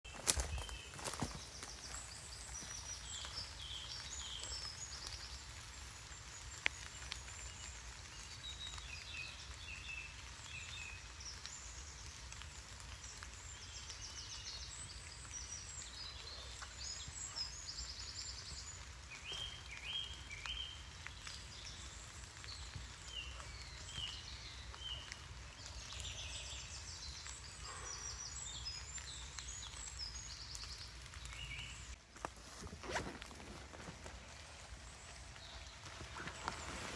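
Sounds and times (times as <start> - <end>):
songbirds chirping and trilling: 0.0 - 36.9.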